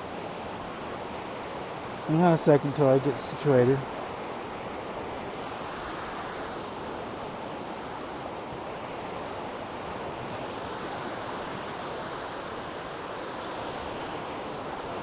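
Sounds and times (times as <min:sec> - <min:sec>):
white-water rapids rushing: 0:00.0 - 0:15.0.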